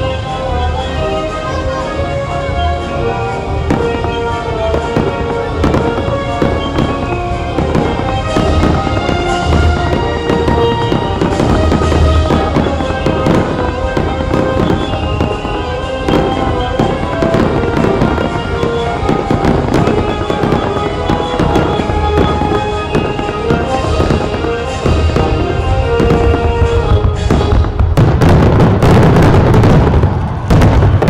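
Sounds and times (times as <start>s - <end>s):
fireworks bangs and crackles: 0.0s - 31.0s
music: 0.0s - 31.0s.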